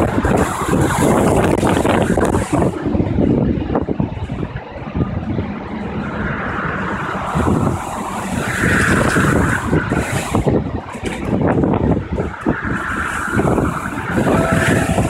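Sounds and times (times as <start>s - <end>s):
higher-pitched wind rushing: 0.0s - 15.0s
strong wind buffeting microphone: 0.0s - 15.0s.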